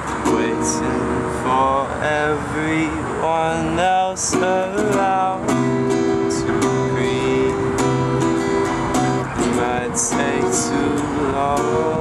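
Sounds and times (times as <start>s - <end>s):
acoustic guitar strumming chords: 0.0s - 12.0s
man singing: 0.0s - 12.0s.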